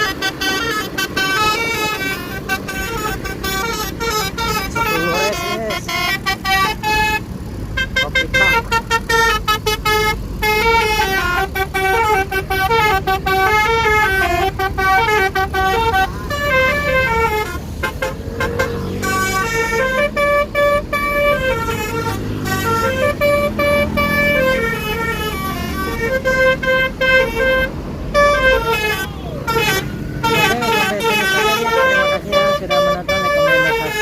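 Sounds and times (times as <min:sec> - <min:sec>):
bus horn playing a tune: 0:00.0 - 0:34.0
low bus engine: 0:00.0 - 0:34.0.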